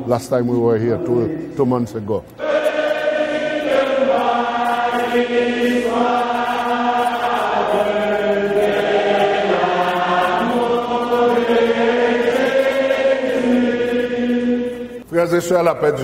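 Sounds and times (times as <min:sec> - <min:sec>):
congregation singing a hymn: 0:00.0 - 0:16.0.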